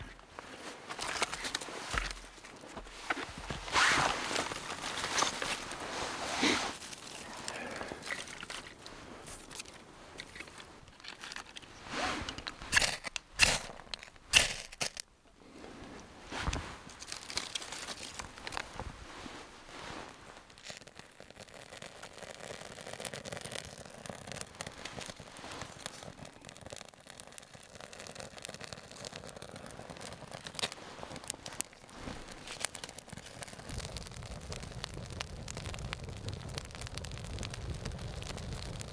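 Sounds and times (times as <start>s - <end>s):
campfire crackling and popping: 0.0s - 38.9s
low rushing of flames: 0.4s - 38.9s.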